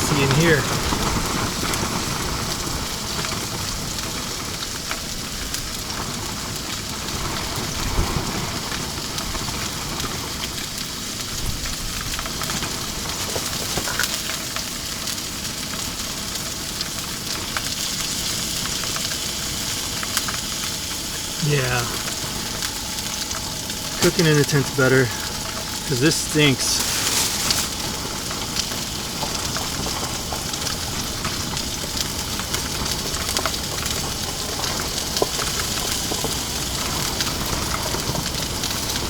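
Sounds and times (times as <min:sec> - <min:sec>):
oil spattering crackles: 0:00.0 - 0:07.7, 0:08.6 - 0:39.0
fish sizzling in oil: 0:00.0 - 0:39.0.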